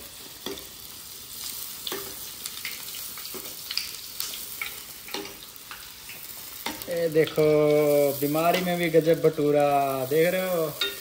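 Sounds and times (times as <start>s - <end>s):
food deep-frying in hot oil: 0.0s - 11.0s
sharp oil crackles: 0.0s - 11.0s.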